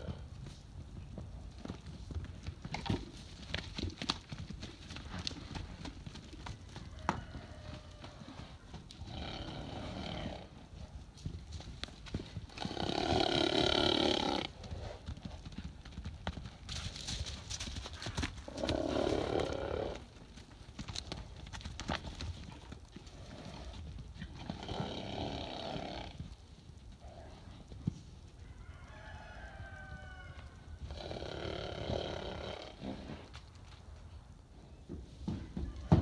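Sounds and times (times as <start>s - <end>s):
hoofbeats on packed dirt: 0.0s - 36.0s.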